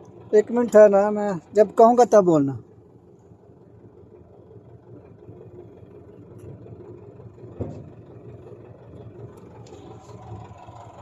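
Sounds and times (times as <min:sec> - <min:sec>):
engine idling hum: 0:00.0 - 0:11.0.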